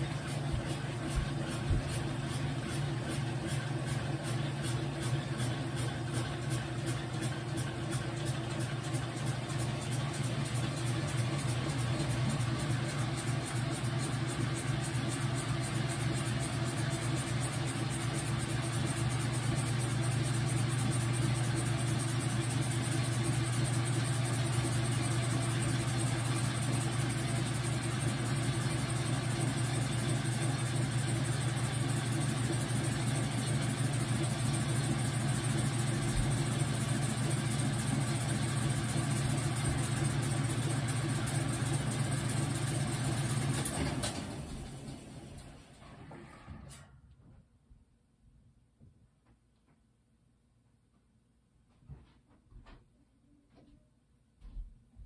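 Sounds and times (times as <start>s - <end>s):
washing machine motor hum: 0.0s - 47.0s.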